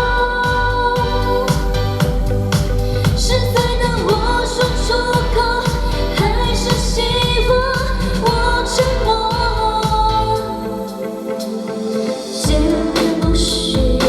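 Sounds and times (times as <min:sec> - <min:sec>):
pop song with singer: 0:00.0 - 0:14.0.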